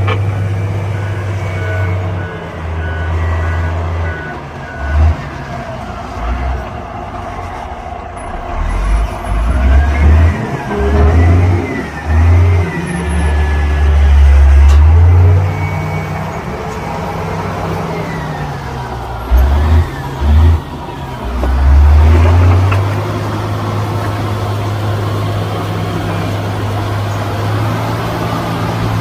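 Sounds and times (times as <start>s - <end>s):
heavy machinery diesel engine rumbling: 0.0s - 29.0s.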